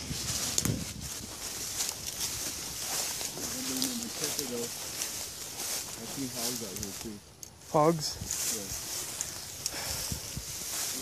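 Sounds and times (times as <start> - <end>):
footsteps through tall grass: 0.0 - 11.0
sharp crackles: 0.0 - 11.0.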